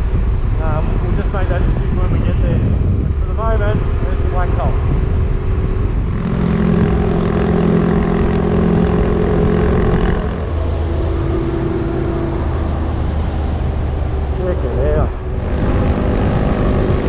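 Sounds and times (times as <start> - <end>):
road and wind noise: 0.0 - 17.0
motorcycle engine running: 1.6 - 17.0.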